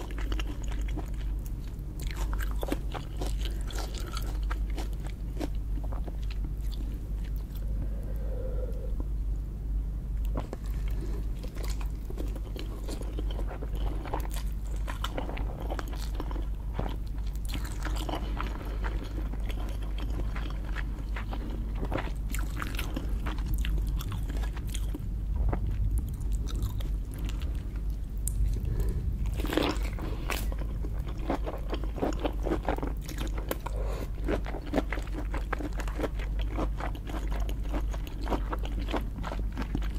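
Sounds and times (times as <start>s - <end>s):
chewing and crunching: 0.0s - 8.8s, 10.2s - 39.9s.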